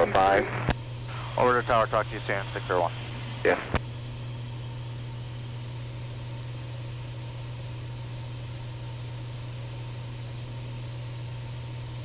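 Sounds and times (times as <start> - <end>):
airplane engine and propeller drone: 0.0 - 12.0.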